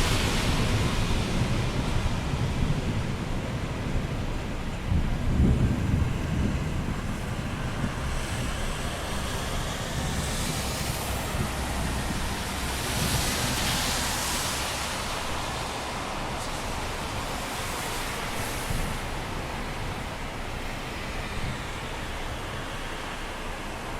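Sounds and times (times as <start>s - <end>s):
thunder rumble: 0.0s - 22.6s
rain hiss: 0.0s - 23.9s.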